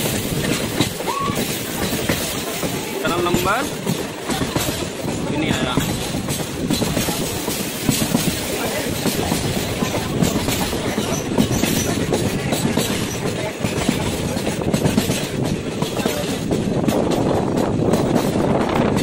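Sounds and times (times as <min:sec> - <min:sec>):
train coaches rumbling and rattling: 0:00.0 - 0:19.0
wheels clattering on rails: 0:00.0 - 0:19.0.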